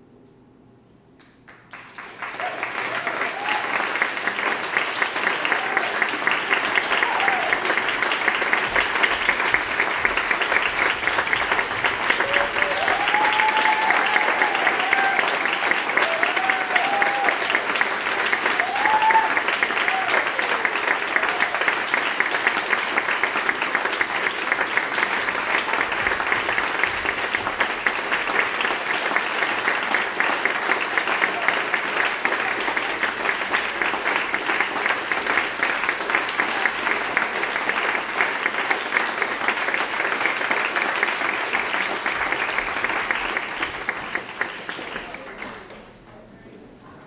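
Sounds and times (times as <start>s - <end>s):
audience applauding: 1.2s - 46.3s.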